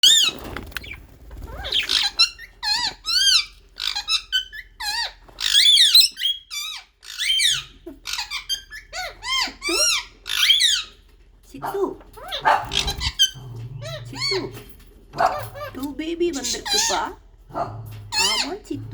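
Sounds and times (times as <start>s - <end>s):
budgerigars chirping: 0.0s - 11.1s, 12.2s - 17.2s, 18.1s - 18.8s.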